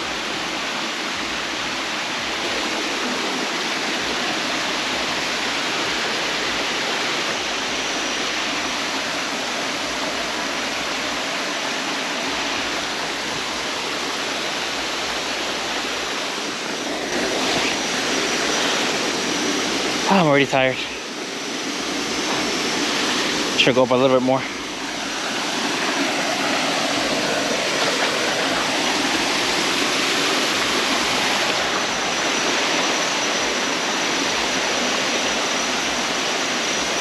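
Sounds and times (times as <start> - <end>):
waterfall rushing over rocks: 0.0 - 37.0.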